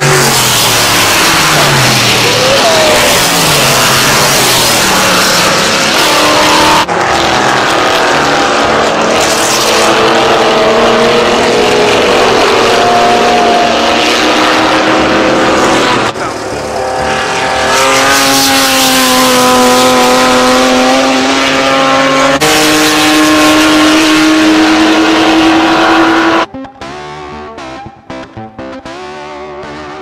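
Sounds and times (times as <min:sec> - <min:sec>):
race cars passing at speed: 0:00.0 - 0:30.0.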